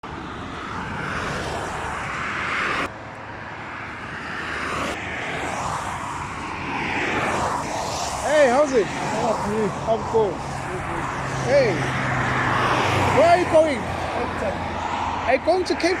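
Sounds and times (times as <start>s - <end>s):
traffic rushing hiss: 0.6s - 16.0s.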